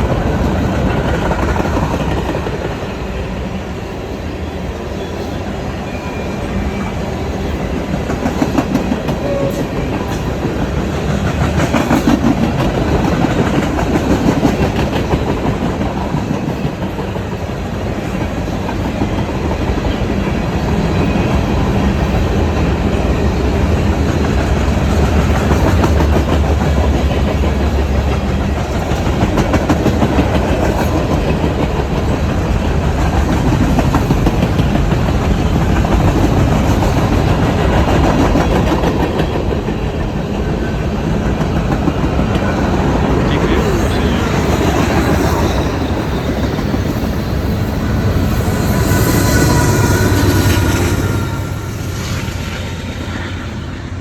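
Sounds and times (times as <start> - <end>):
freight train rumble: 0.0 - 54.0.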